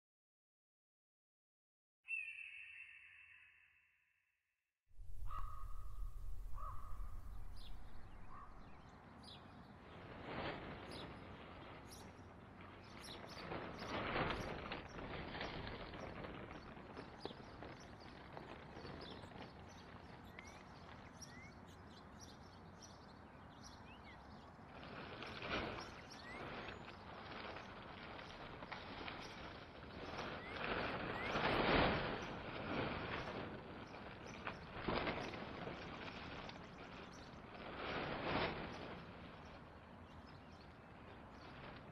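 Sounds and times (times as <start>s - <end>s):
small birds chirping: 2.1s - 3.8s, 5.1s - 9.8s, 10.8s - 41.9s.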